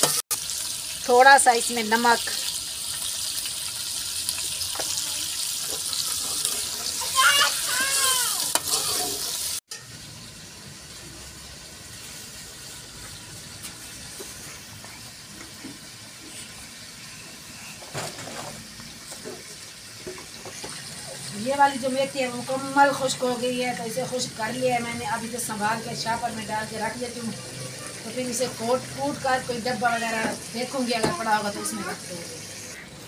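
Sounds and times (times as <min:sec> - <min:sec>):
chicken sizzling in hot oil: 0:00.0 - 0:32.8.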